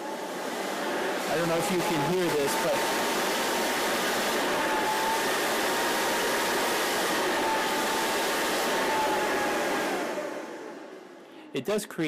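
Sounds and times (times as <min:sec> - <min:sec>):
blower rushing air: 0:00.0 - 0:11.6.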